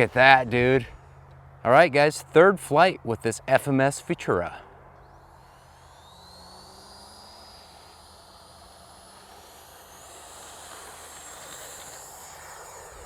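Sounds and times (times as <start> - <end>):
electric ducted fan whining: 0.0 - 13.0.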